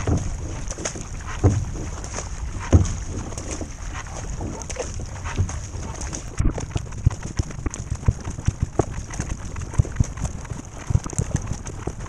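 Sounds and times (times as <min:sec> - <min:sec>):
paddle strokes splashing: 0:00.0 - 0:12.0
water slapping the hull: 0:00.0 - 0:12.0.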